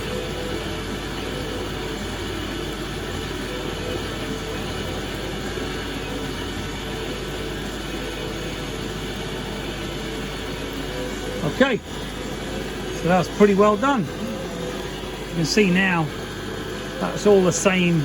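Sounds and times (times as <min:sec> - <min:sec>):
lathe running with faint whine: 0:00.0 - 0:18.0.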